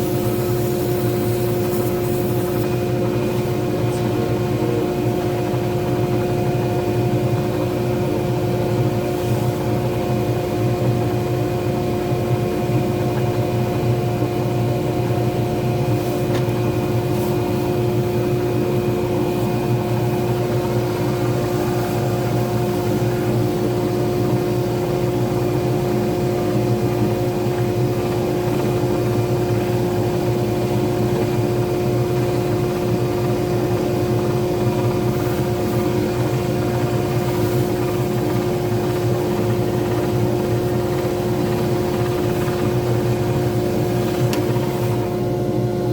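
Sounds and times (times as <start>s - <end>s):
lathe motor humming: 0.0s - 45.9s.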